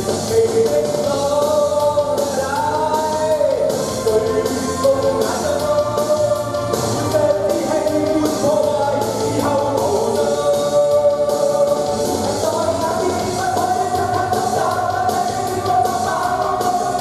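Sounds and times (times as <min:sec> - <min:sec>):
man singing pop-rock song: 0:00.0 - 0:17.0
rock band accompaniment: 0:00.0 - 0:17.0.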